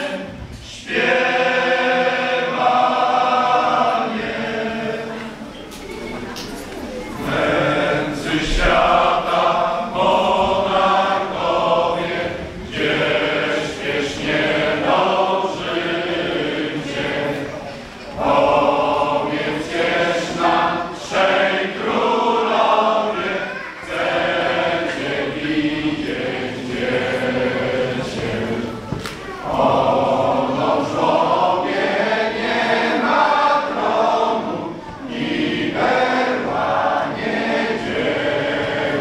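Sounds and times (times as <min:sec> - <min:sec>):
male choir singing a carol: 0:00.0 - 0:05.6, 0:07.0 - 0:39.0.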